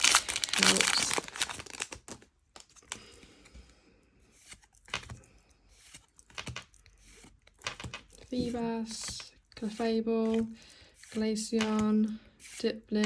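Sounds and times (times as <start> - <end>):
trading cards rustling and clicking: 0.0 - 3.7, 4.3 - 13.0.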